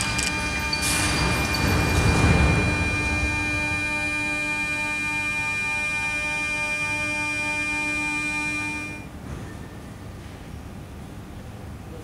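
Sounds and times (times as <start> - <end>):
metro train electrical whine: 0.0 - 12.0.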